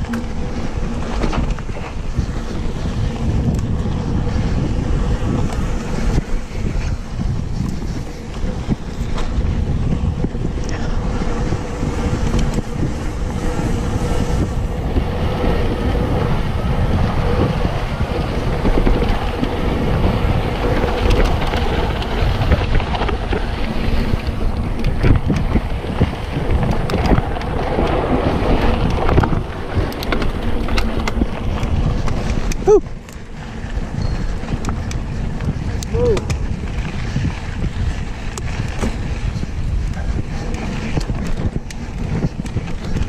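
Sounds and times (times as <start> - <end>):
bike clattering over rough ground: 0.0 - 43.0
bike tyres rumbling on dirt: 0.0 - 43.0
wind buffeting microphone: 0.0 - 43.0.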